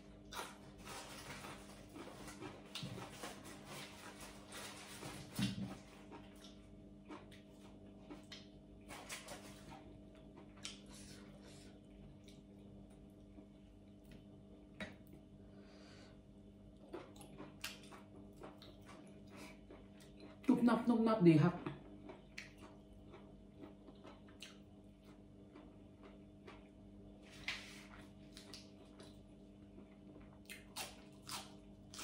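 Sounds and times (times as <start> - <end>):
soft chewing: 0.0 - 20.6, 21.6 - 32.0
steady low hum: 0.0 - 32.0.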